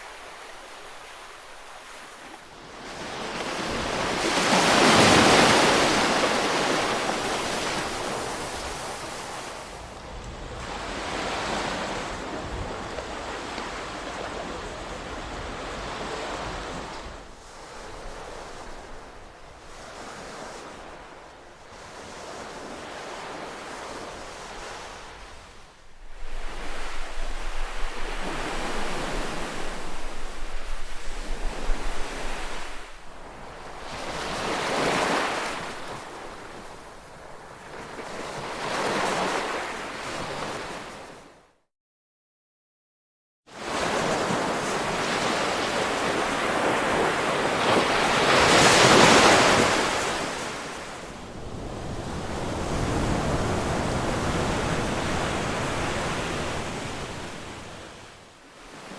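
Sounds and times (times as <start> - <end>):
ocean surf washing onto shore: 0.0 - 41.2, 43.6 - 58.9.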